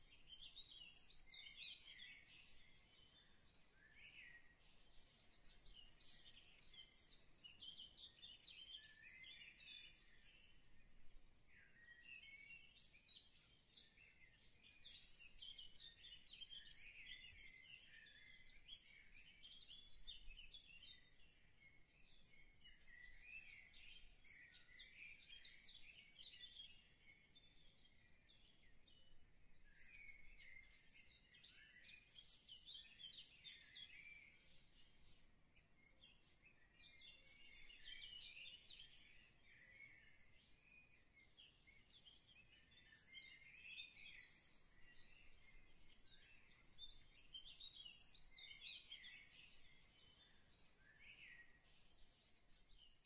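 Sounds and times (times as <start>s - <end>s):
faint birds chirping: 0.0s - 53.0s.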